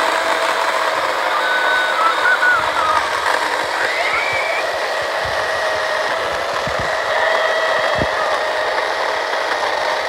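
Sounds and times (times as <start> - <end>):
electric chainsaw cutting wood: 0.0 - 10.0.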